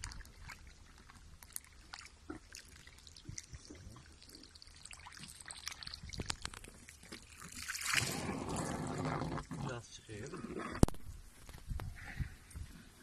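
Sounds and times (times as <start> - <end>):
faint trickle of liquid through tube: 0.0 - 11.0.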